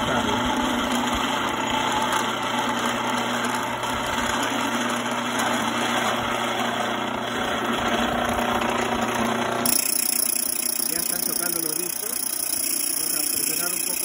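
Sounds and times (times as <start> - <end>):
grain mill humming: 0.0 - 14.0.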